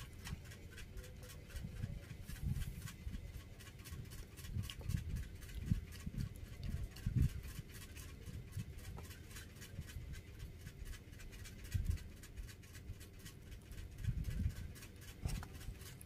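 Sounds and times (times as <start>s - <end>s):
cat chewing: 0.0s - 16.0s.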